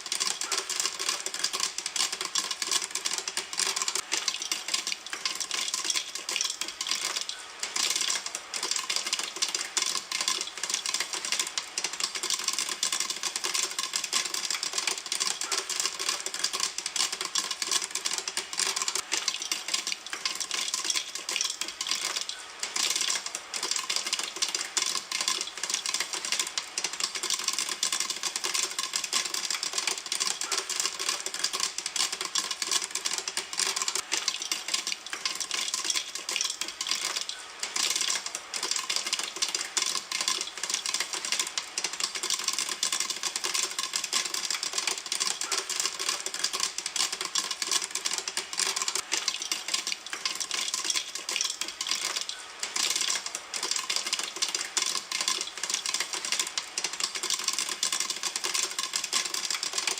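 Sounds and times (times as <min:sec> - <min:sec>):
popcorn popping in a pan: 0:00.0 - 0:59.9.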